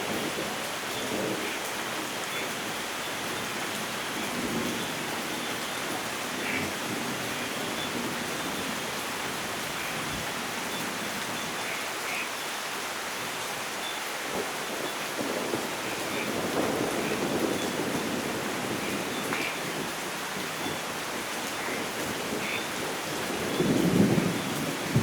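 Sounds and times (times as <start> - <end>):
faint thunder rumbles: 0.0 - 12.2, 14.2 - 25.0
steady rain: 0.0 - 25.0.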